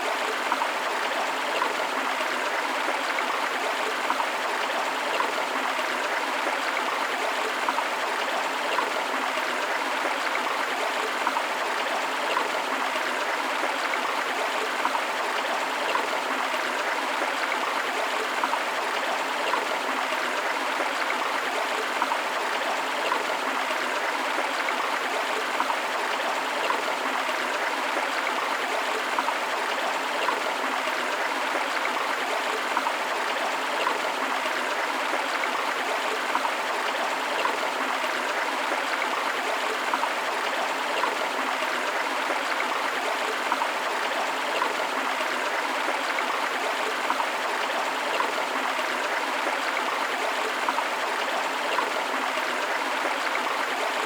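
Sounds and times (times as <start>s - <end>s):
small waterfall: 0.0s - 54.0s.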